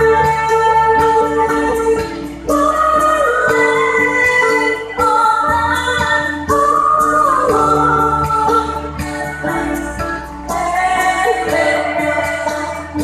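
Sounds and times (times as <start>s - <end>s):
woman singing through a pa: 0.0s - 9.8s, 10.5s - 13.0s
bass and beat accompaniment: 0.0s - 13.0s.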